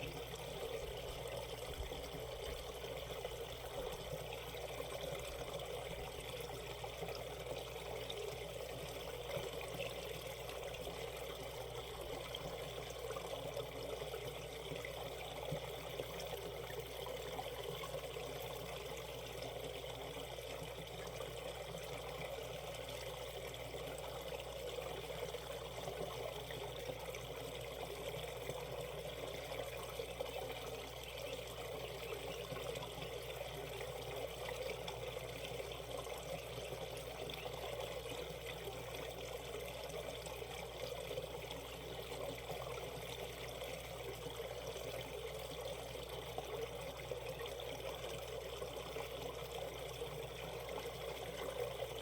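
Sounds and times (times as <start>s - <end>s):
stream running over rocks: 0.0s - 52.0s.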